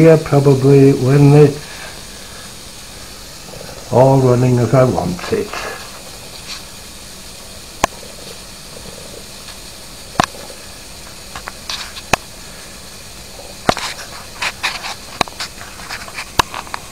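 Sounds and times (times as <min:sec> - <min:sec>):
steam hissing: 0:00.0 - 0:16.9.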